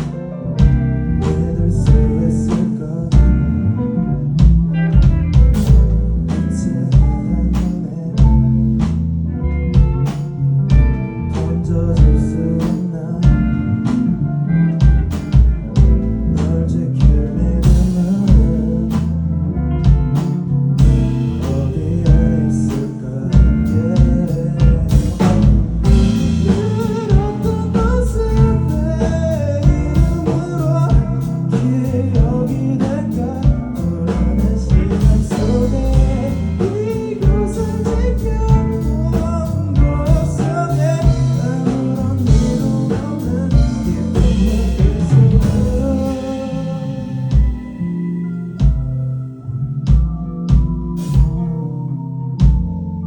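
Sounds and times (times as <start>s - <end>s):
steady drum beat: 0.0s - 3.4s, 4.4s - 9.1s, 9.8s - 14.1s, 14.8s - 19.1s, 19.9s - 47.8s, 48.6s - 49.0s, 49.9s - 51.4s
person singing: 0.0s - 8.9s, 10.9s - 20.2s, 20.8s - 48.8s
live rock band: 0.0s - 53.0s.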